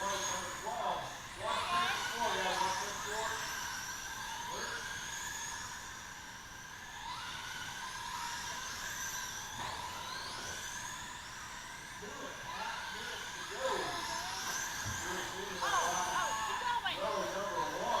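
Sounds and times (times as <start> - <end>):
rc car electric motors whining: 0.0 - 18.0.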